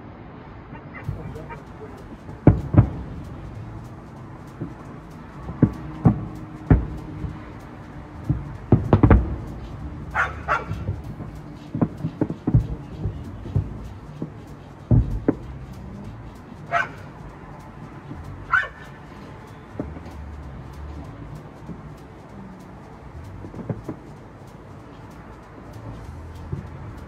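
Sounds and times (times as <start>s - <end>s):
distant fireworks booming: 1.0s - 27.0s.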